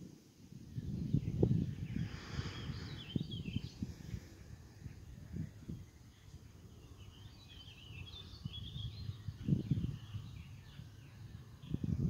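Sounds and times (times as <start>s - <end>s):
small birds chirping: 0.5s - 12.0s
low rumble on microphone: 0.6s - 12.0s.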